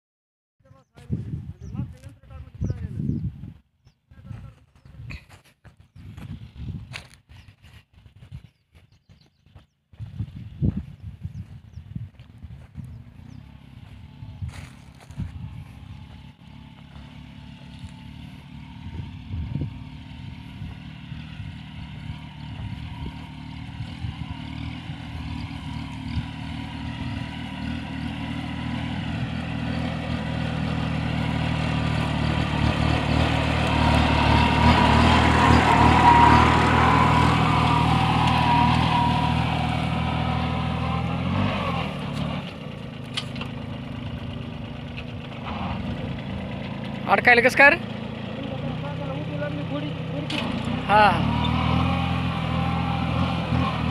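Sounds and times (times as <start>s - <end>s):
tractor diesel engine running: 3.8s - 53.9s.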